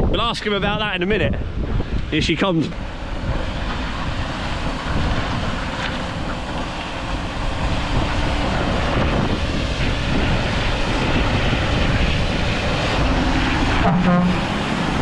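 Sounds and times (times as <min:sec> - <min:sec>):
wind buffeting microphone: 0:00.0 - 0:15.0
lorry diesel engine: 0:01.4 - 0:15.0.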